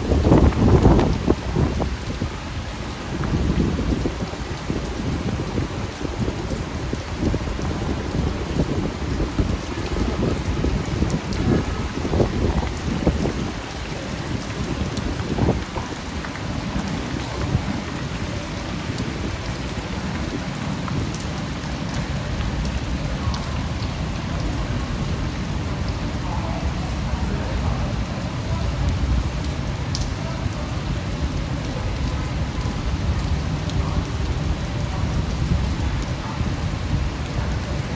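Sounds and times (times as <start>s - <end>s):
rain on a street: 0.0s - 37.9s
raindrop ticks: 5.6s - 26.8s, 27.5s - 37.8s.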